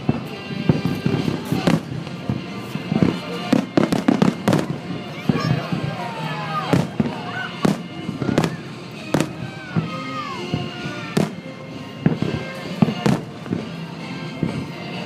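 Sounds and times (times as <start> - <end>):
crackling firework tail: 0.0 - 15.0
fireworks bursting: 0.0 - 15.0.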